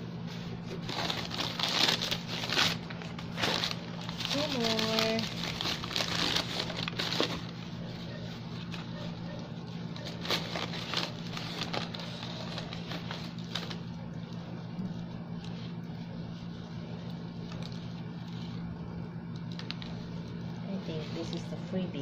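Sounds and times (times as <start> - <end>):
steady low hum: 0.0 - 22.0
paper and plastic rustling: 0.2 - 22.0.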